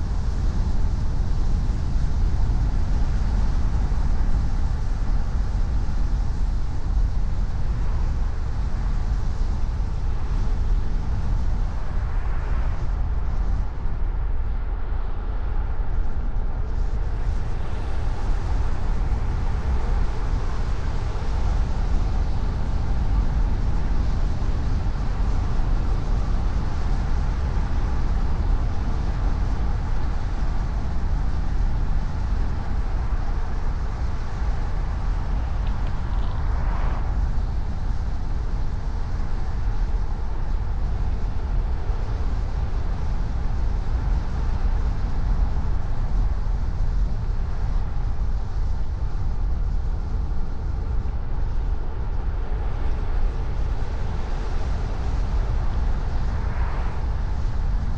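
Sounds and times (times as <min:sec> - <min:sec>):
car road and engine rumble: 0:00.0 - 0:57.9.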